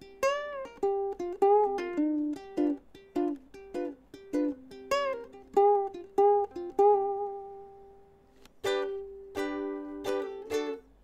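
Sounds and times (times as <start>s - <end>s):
ukulele plucked melody: 0.0s - 11.0s.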